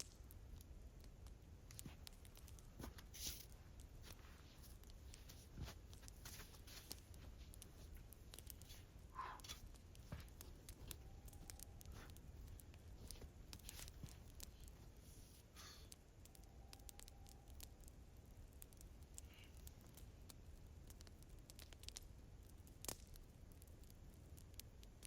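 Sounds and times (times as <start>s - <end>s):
faint clicks and crackles: 0.0s - 25.0s.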